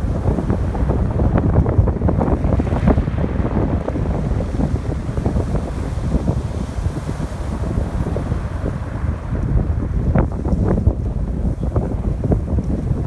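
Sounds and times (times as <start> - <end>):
ocean waves washing ashore: 0.0 - 13.0
wind buffeting microphone: 0.0 - 13.0.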